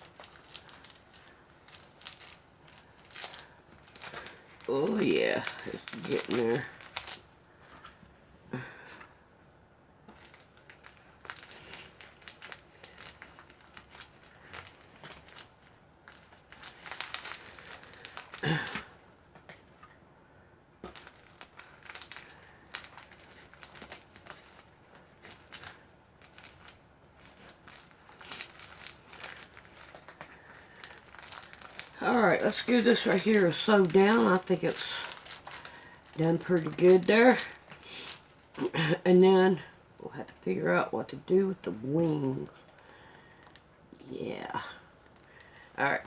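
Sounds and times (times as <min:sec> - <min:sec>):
fabric rustling and crinkling: 0:00.0 - 0:09.1, 0:10.0 - 0:19.9, 0:20.8 - 0:38.9.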